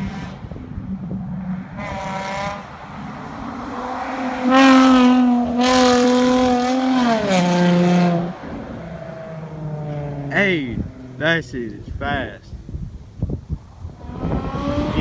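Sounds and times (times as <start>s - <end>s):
car engine accelerating: 0.0s - 11.4s, 13.9s - 15.0s.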